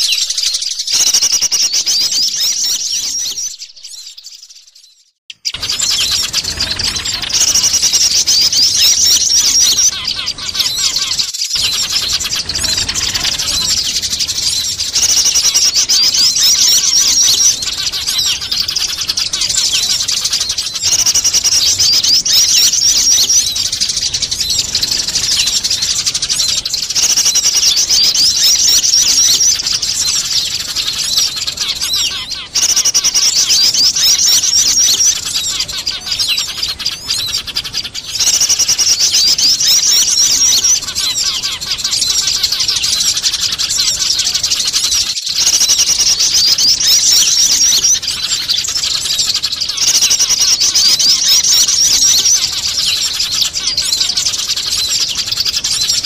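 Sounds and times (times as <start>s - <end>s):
small birds calling: 0.0s - 56.0s
sparrows chattering and chirping: 0.0s - 56.0s.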